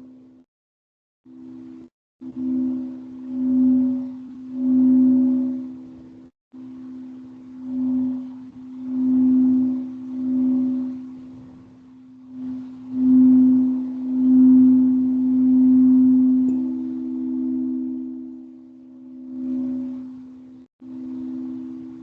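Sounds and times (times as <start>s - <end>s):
singing bowl higher tone: 1.3s - 22.0s
singing bowl low tone: 1.3s - 22.0s.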